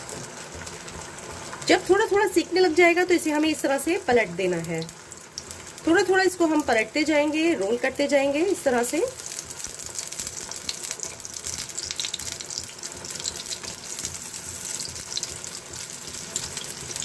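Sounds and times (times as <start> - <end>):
egg sizzling in a pan: 0.0 - 17.0.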